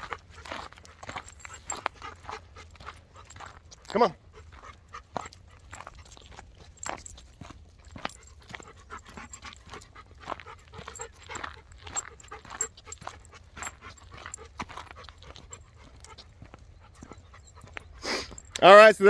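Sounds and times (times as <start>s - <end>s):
dog panting: 0.0s - 18.6s.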